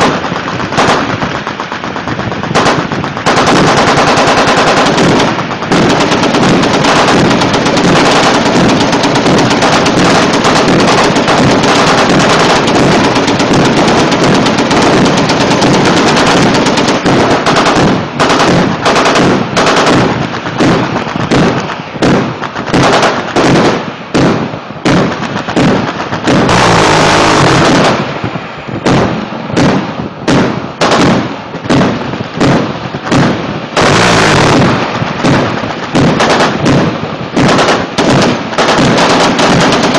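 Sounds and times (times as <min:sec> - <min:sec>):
naval gun automatic fire: 0:00.0 - 0:39.9
single gunshots: 0:00.0 - 0:39.9.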